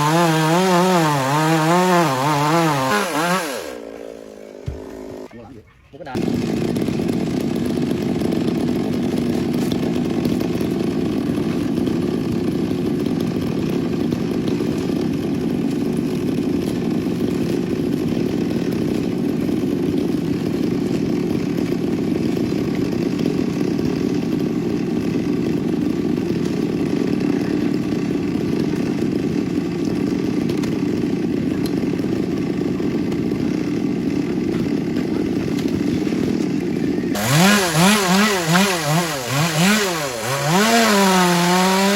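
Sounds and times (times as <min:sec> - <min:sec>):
chainsaw engine running: 0:00.0 - 0:41.9.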